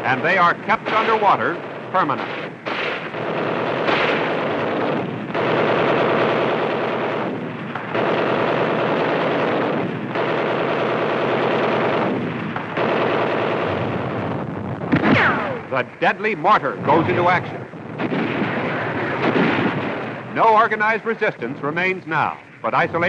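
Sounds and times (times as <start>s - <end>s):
machine-gun fire: 0.0s - 15.8s, 16.8s - 20.8s.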